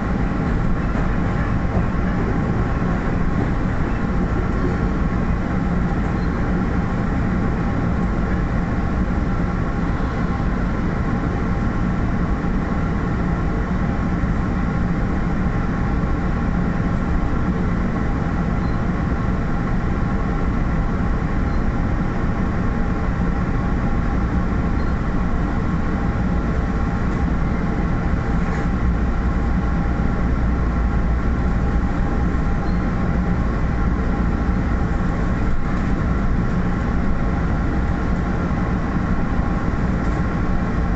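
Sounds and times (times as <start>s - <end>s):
diesel train rumbling: 0.0s - 40.9s.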